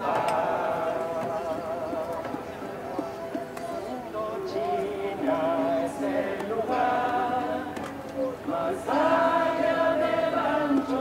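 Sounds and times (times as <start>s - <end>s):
crowd singing together: 0.0s - 11.0s.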